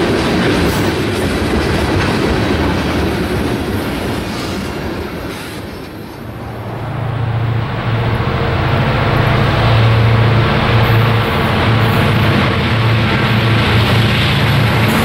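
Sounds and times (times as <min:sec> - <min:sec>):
train wheels clattering on rails: 0:00.0 - 0:06.5, 0:07.8 - 0:15.0
diesel locomotives droning: 0:00.0 - 0:15.0.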